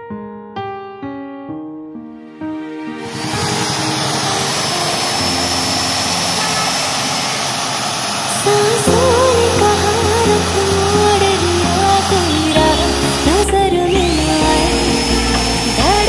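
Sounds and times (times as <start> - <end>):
electric drill boring through metal: 3.0 - 16.0.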